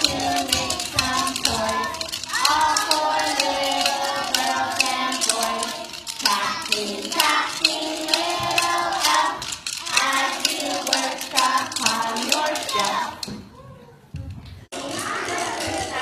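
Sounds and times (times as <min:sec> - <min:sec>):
children singing together: 0:00.0 - 0:13.3, 0:14.8 - 0:16.0
wooden rhythm sticks clicking: 0:00.0 - 0:13.5, 0:14.7 - 0:16.0.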